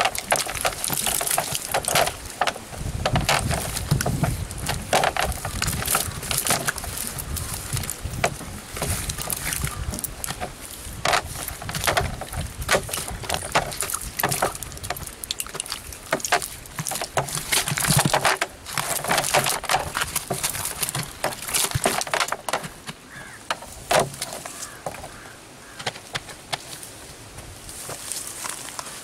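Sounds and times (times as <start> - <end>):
fish and net slapping and rustling: 0.0 - 25.3.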